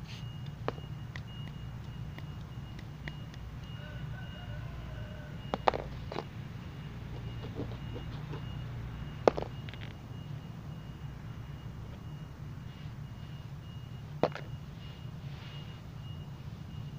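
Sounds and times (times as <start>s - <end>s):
low engine rumble: 0.0s - 16.9s
reversing alarm beeping: 0.0s - 16.9s.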